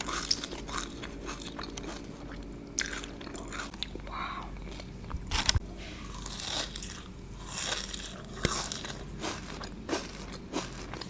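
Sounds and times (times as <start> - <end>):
biting and chewing cookie: 0.0 - 11.0.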